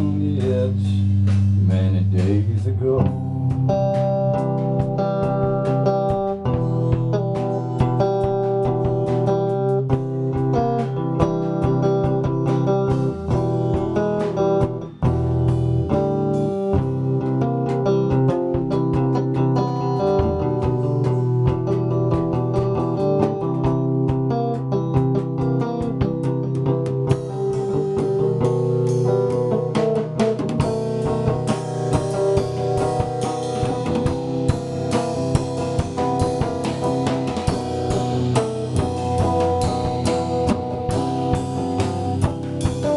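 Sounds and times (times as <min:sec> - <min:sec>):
drum kit playing: 0:00.0 - 0:42.9
electric guitar: 0:00.0 - 0:42.9.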